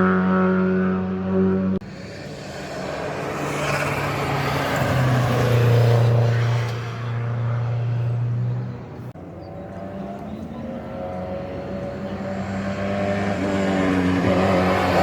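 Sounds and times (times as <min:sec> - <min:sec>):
racing car engine passing: 0:00.0 - 0:15.0.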